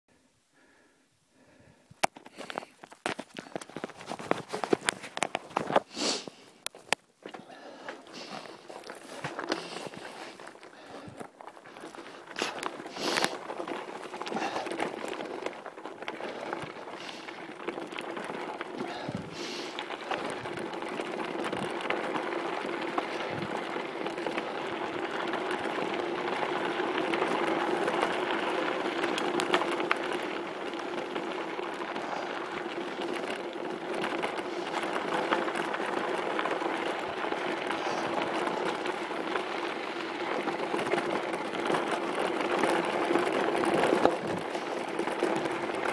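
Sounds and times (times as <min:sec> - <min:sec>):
bike tyres crunching over stones: 0:01.7 - 0:45.9.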